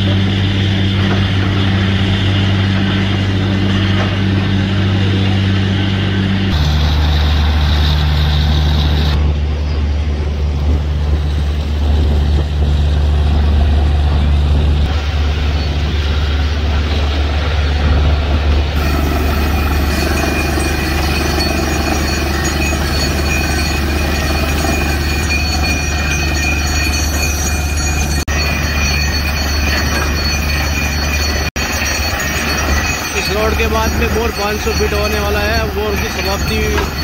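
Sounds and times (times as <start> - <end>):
drilling rig low drone: 0.0 - 37.0
high-pitched whine: 0.0 - 37.0.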